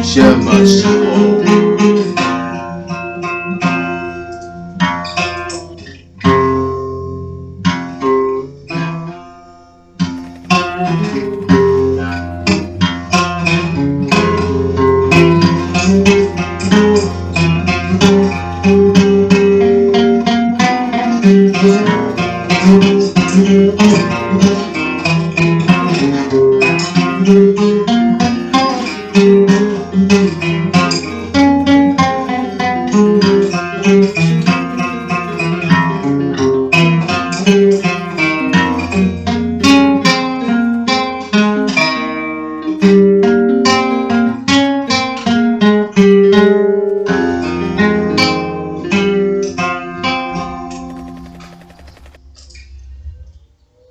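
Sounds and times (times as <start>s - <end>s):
acoustic guitar music: 0.0s - 51.7s.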